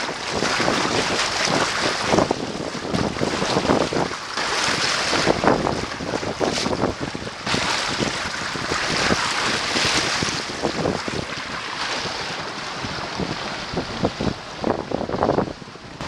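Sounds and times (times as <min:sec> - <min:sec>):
bow wave splashing along hull: 0:00.0 - 0:16.0
wind buffeting microphone: 0:00.0 - 0:16.0.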